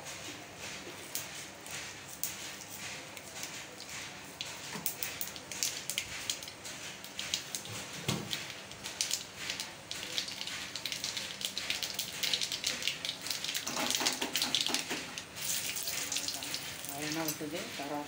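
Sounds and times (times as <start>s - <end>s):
hot fat crackling and popping: 2.2s - 17.7s.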